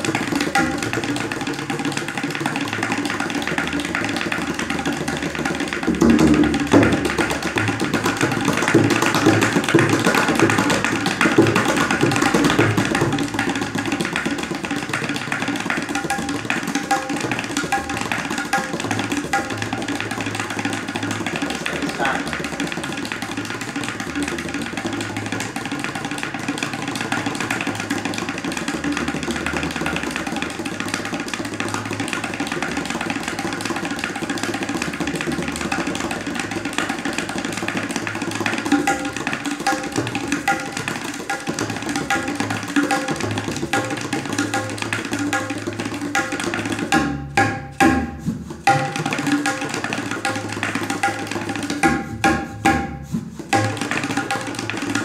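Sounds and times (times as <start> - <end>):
tabla strokes: 0.0 - 55.0.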